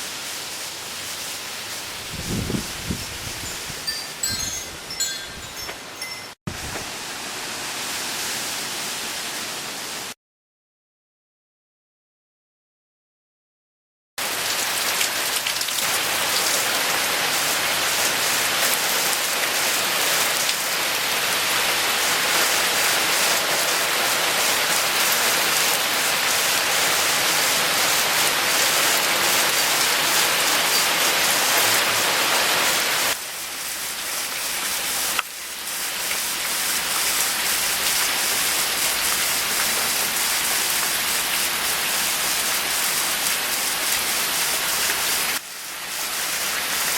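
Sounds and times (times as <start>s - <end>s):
steady rain hissing: 0.0s - 10.2s, 14.2s - 46.9s.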